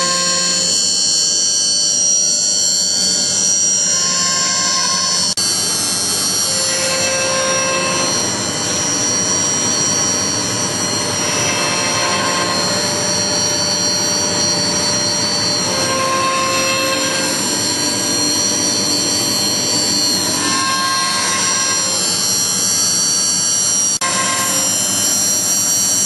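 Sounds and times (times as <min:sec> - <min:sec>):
constant high whine: 0:00.0 - 0:26.0
dust collector blower running: 0:02.9 - 0:26.0.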